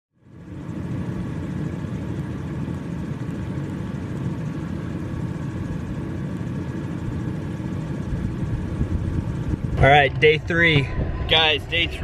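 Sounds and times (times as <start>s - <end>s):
vehicle engine idling: 0.2s - 12.0s.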